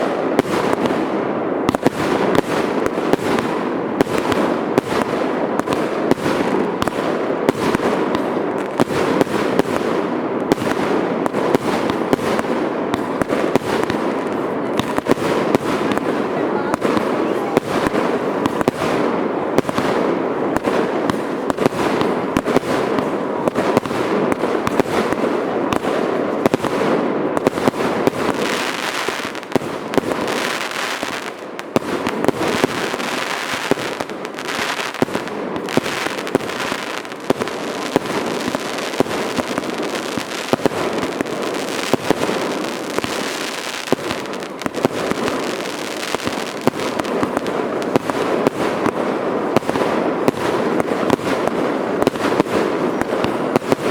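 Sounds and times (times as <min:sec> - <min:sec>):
fireworks bangs and pops: 0:00.0 - 0:53.9
fireworks crackling rumble: 0:00.0 - 0:53.9.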